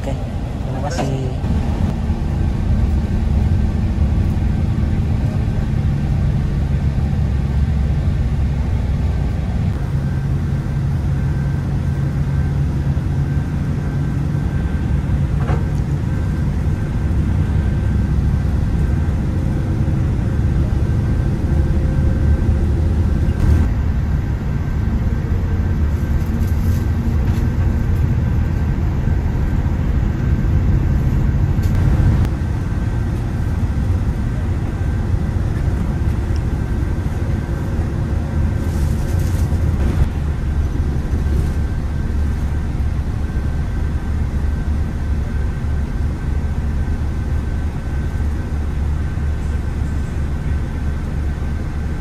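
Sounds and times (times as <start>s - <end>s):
bus engine droning: 0.0s - 52.0s.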